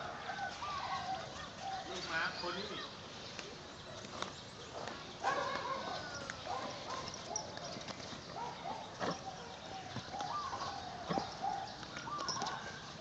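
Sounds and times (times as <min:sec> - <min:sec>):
horse rolling in dry dirt: 0:00.0 - 0:13.0.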